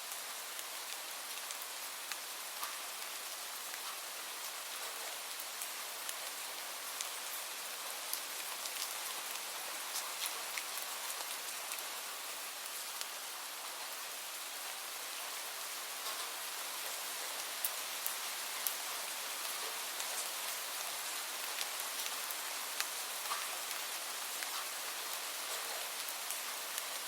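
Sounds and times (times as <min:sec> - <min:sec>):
light rain hissing: 0:00.0 - 0:27.0.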